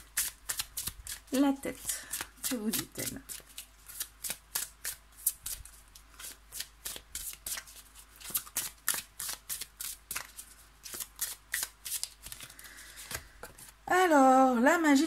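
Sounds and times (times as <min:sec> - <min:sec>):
cards being shuffled: 0:00.0 - 0:13.8.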